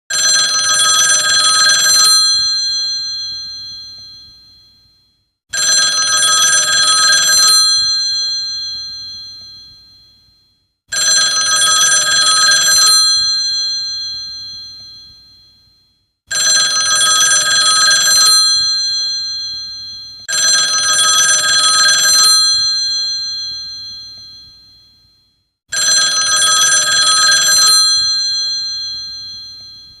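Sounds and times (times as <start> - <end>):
telephone bell ringing: 0.1 - 4.9, 5.5 - 15.7, 16.3 - 25.1, 25.7 - 30.0.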